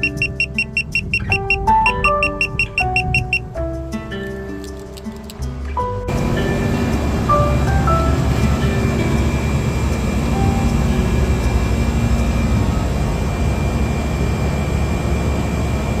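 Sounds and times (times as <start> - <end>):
chiller compressor droning: 0.0 - 3.8, 5.9 - 16.0.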